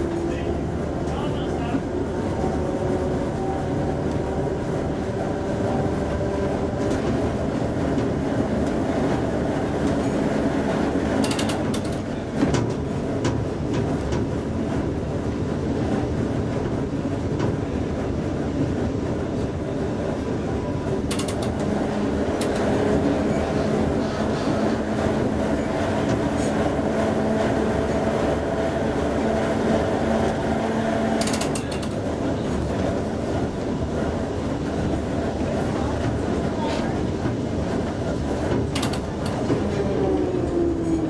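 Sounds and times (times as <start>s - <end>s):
electric tram running hum: 0.0s - 41.0s
tram jolt: 0.0s - 41.0s
wheels rattling on rails: 0.0s - 41.0s.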